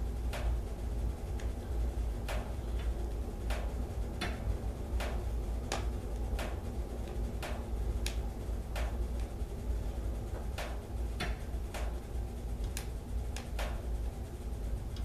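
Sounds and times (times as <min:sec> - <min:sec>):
fire rumbling: 0:00.0 - 0:15.0
burning logs popping: 0:00.2 - 0:14.0.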